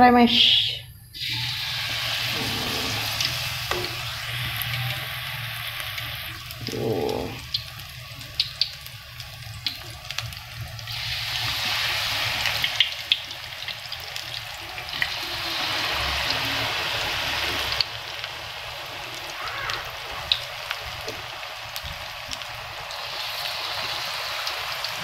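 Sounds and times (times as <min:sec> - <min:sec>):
food deep-frying in hot oil: 0:01.1 - 0:25.0.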